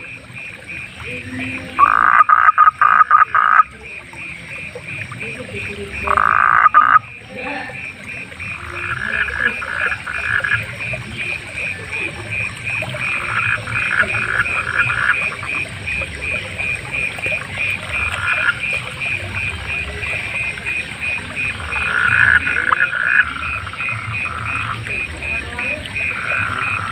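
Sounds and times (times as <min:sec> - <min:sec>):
frog chorus pulsing calls: 0:00.0 - 0:26.9
frog fast run of calls: 0:00.0 - 0:26.9.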